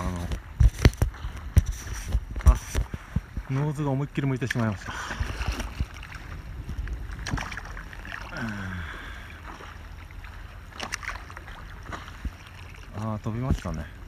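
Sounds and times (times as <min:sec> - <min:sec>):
paddle splashes: 0:00.0 - 0:14.0
steady low rumble: 0:00.0 - 0:14.0
water lapping against board: 0:00.0 - 0:14.0.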